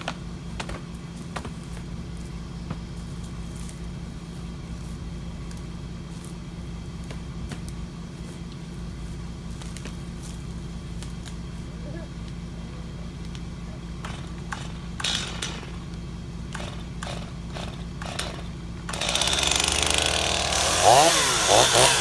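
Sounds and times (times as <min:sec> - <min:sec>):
engine running at low speed: 0:00.0 - 0:22.0.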